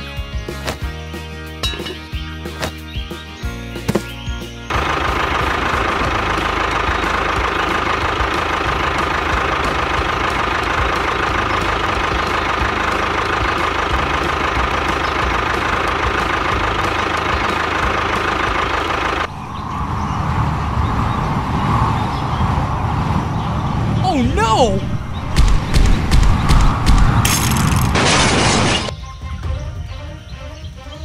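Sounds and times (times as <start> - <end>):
diesel tractor engine running: 0.0 - 28.9.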